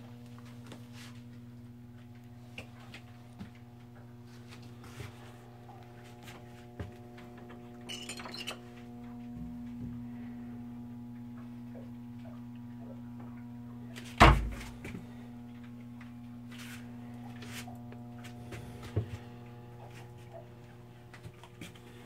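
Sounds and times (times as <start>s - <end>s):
machinery electrical hum: 0.0s - 22.0s.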